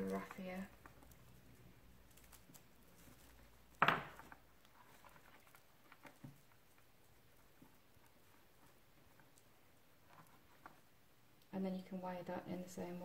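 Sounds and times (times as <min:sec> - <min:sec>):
dry twigs rustling and crackling: 0:00.0 - 0:11.5.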